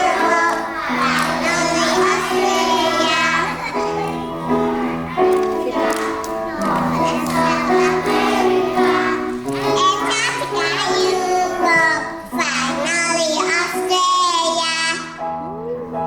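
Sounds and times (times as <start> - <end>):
children singing: 0.0 - 15.2
musical accompaniment: 0.0 - 16.0.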